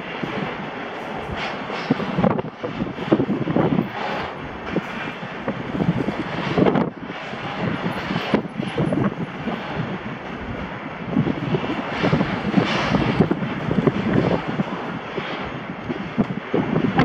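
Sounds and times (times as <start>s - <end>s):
freight train wagons rumbling: 0.0s - 17.0s
wind on microphone: 0.0s - 17.0s.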